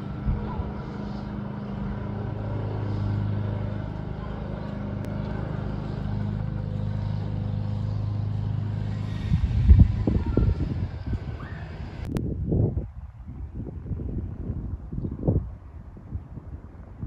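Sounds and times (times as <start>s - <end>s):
low vehicle hum: 0.0s - 17.0s.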